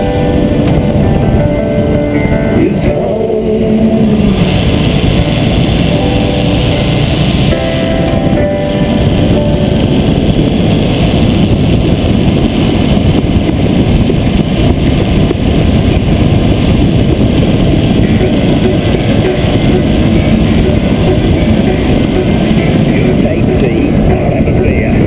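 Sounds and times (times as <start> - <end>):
road noise rumble: 0.0 - 25.0
wind rush: 0.0 - 25.0.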